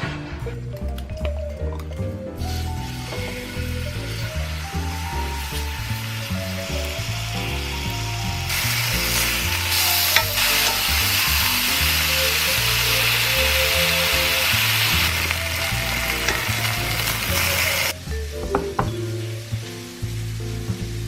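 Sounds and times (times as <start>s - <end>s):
background music with bass line: 0.0s - 21.0s
food sizzling in hot oil: 2.4s - 21.0s.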